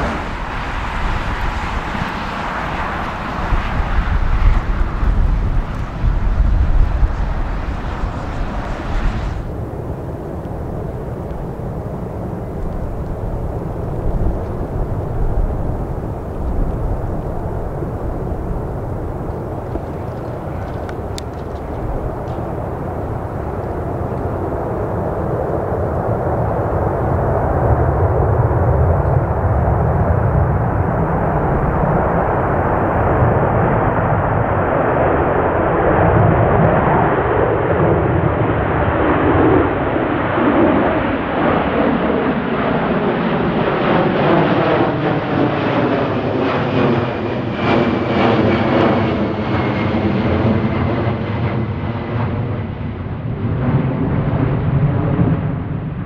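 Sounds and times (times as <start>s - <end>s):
jet airliner passing: 0.0s - 56.0s.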